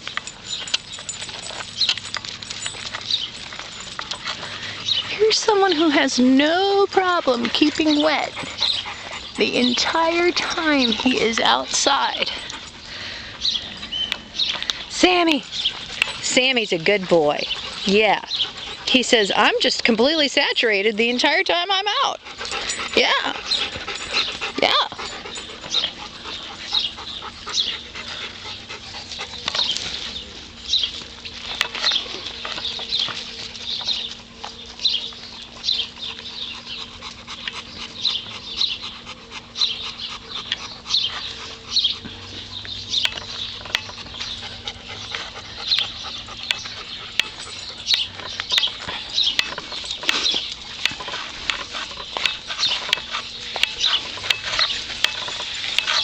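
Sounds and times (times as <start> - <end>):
dogs yapping: 0.1 - 14.5, 15.1 - 19.8, 21.9 - 56.0.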